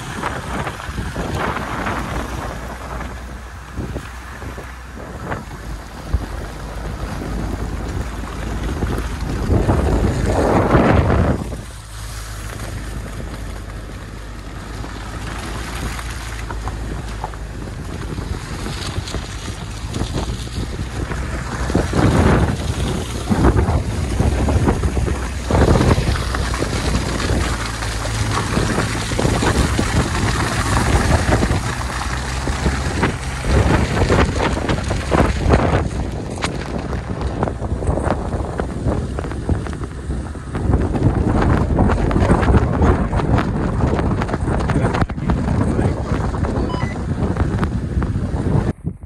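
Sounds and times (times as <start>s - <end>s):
vehicle pushing through snow: 0.0s - 48.7s
vehicle and tyres droning: 0.0s - 49.0s
wind buffeting microphone: 0.0s - 49.0s.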